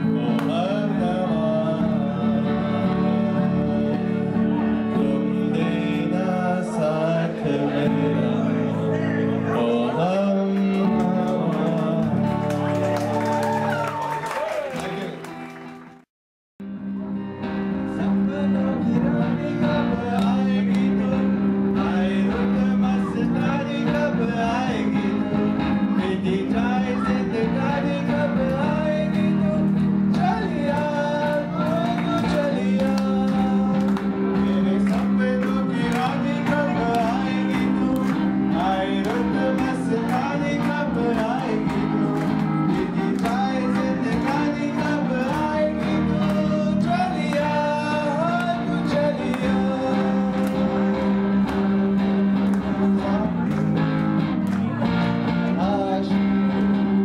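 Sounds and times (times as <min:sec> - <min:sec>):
man singing into a microphone: 0:00.0 - 0:12.9, 0:17.7 - 0:54.0, 0:54.6 - 0:57.0
electric guitar: 0:00.0 - 0:16.0, 0:16.6 - 0:57.0.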